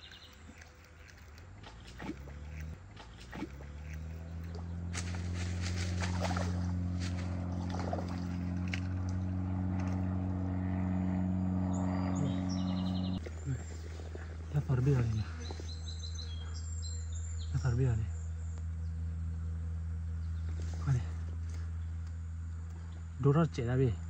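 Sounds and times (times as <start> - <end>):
motor engine droning: 0.0 - 24.0.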